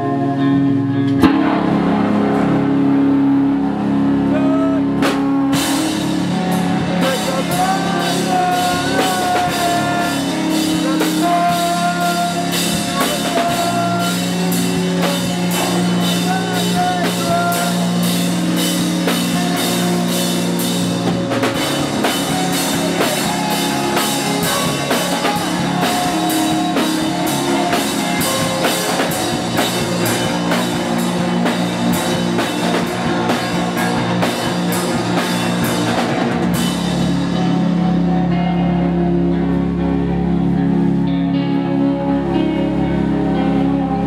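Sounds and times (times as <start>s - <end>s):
bass guitar: 0.0s - 44.0s
electric guitar: 0.0s - 44.0s
drum kit beat: 1.1s - 38.4s.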